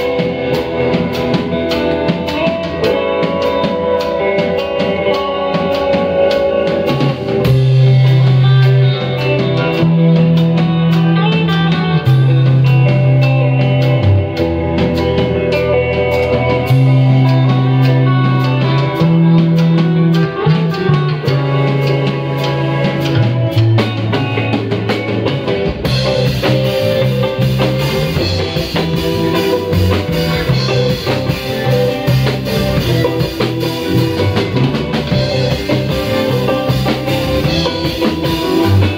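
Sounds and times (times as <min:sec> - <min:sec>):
drum kit: 0:00.0 - 0:38.9
electric bass holding long notes: 0:00.0 - 0:38.9
electric guitar: 0:00.0 - 0:38.9.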